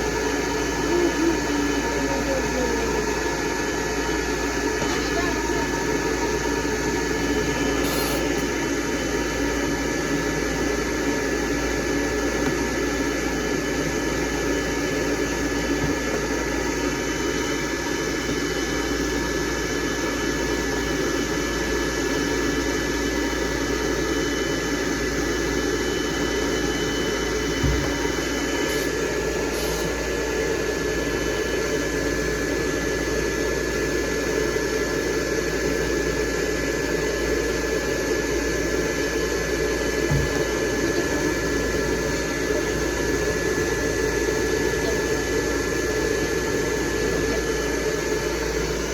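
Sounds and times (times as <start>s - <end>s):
blow dryer running: 0.0s - 48.9s.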